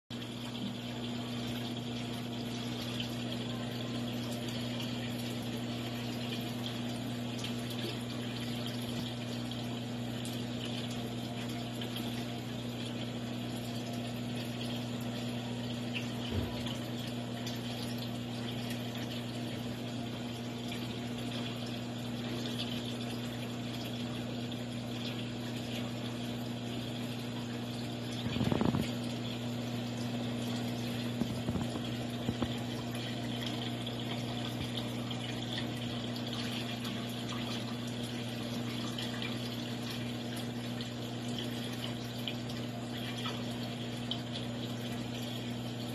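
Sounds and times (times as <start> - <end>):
aquarium pump humming: 0.1 - 45.9.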